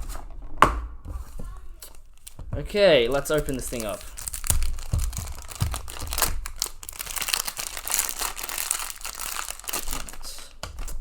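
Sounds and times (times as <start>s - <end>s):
plastic packaging crinkling and tearing: 1.8s - 11.0s.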